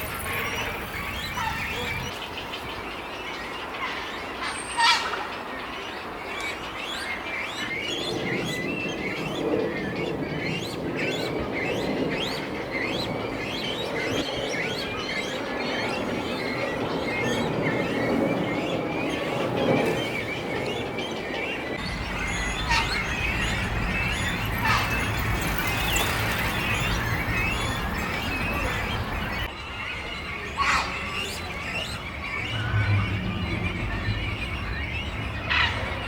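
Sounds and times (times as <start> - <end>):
small birds chirping: 5.4 - 36.0.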